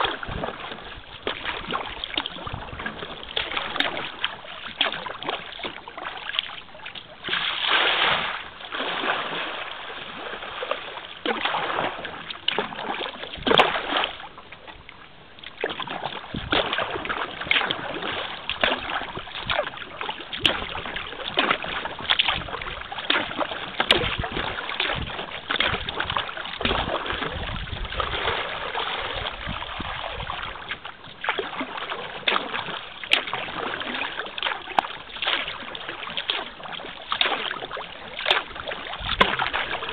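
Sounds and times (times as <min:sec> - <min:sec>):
paddle strokes splashing: 0:00.0 - 0:39.9
water washing along hull: 0:00.0 - 0:39.9.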